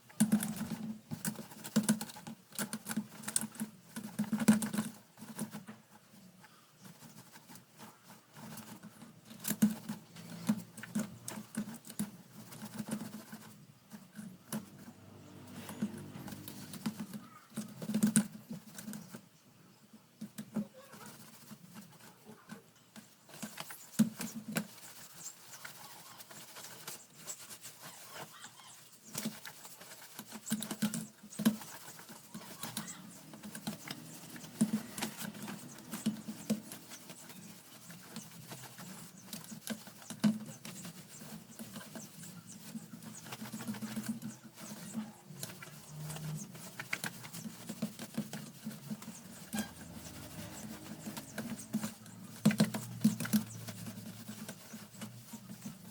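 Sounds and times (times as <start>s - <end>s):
plastic fan parts clicking and tapping: 0.0s - 6.2s, 6.8s - 19.3s, 20.2s - 55.9s.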